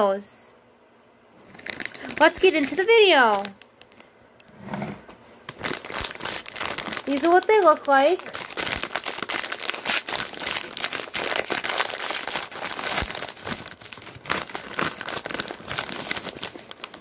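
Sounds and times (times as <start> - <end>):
plastic snack bag crinkling: 1.4 - 3.6, 5.5 - 17.0.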